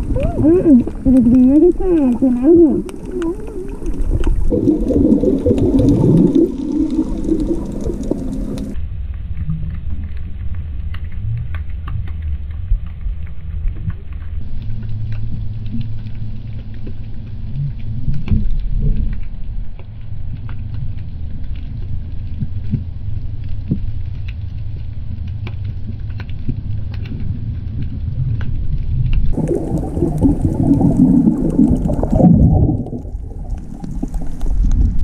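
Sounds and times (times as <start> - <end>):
warbling gurgling bubbles: 0.0 - 8.8, 9.4 - 35.0
low underwater rumble: 0.0 - 35.0
faint scattered clicks: 0.2 - 4.6, 10.2 - 34.9.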